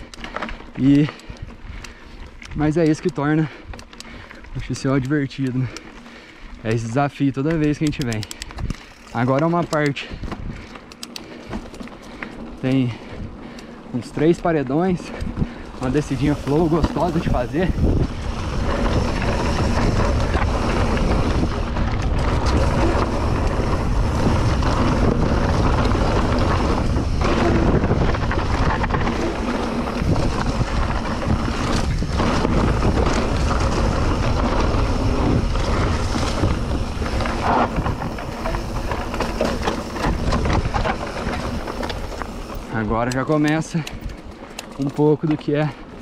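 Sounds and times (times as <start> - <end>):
bike tyres rumbling over dirt: 0.0 - 46.0
wind buffeting microphone: 6.6 - 44.4.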